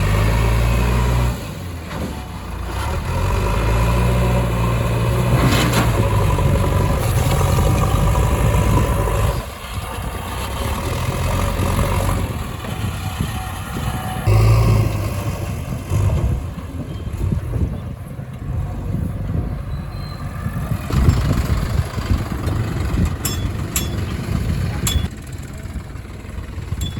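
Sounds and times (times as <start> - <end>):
diesel engine rumbling under load: 0.0 - 26.9.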